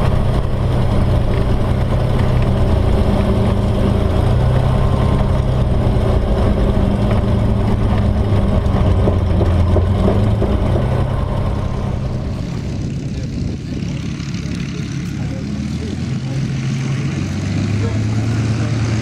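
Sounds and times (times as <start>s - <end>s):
aircraft engine running: 0.0s - 19.0s.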